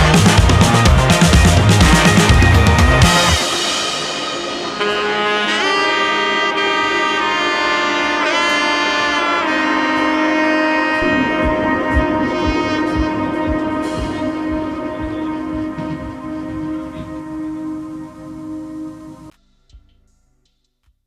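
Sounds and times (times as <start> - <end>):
melodic lead with sliding notes: 0.0 - 19.3
low steady beat: 0.0 - 20.6.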